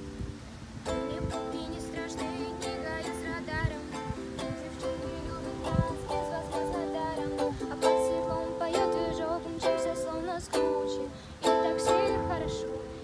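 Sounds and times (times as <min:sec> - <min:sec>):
ukulele strumming chords: 0:00.0 - 0:13.0.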